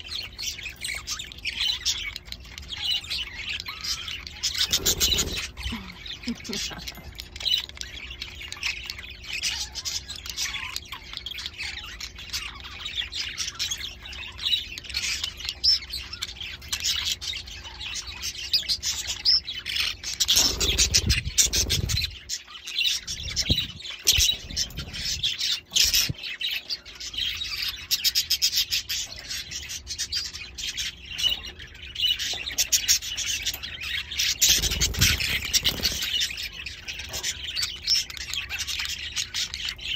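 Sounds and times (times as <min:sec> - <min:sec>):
budgies chirping and chattering: 0:00.0 - 0:39.9
faint steady hum: 0:00.0 - 0:39.9.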